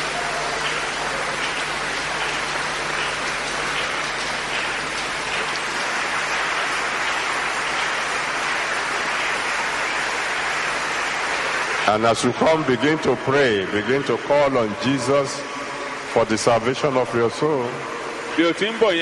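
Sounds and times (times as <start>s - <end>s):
crowd applauding: 0.0s - 19.0s.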